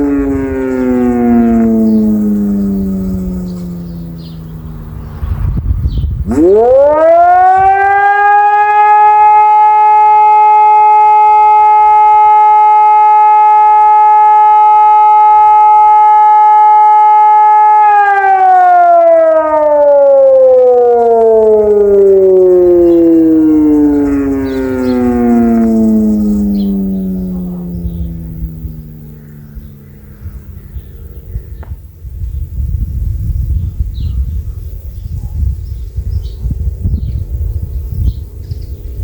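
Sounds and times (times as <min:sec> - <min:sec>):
civil defence siren single tone: 0:00.0 - 0:39.0.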